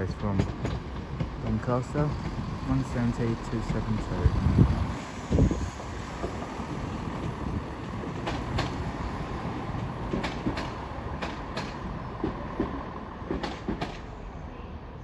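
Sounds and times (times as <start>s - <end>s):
wheels clacking over rail joints: 0.0s - 4.4s, 5.9s - 14.1s
train rumbling: 0.0s - 15.0s.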